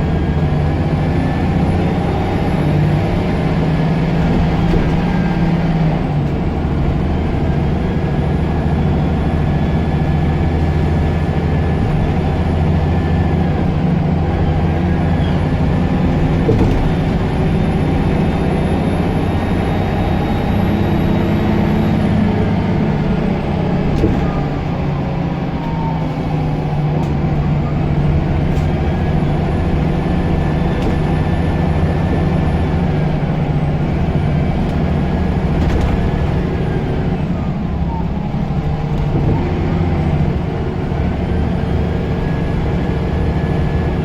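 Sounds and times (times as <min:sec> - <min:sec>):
bus engine running: 0:00.0 - 0:44.0.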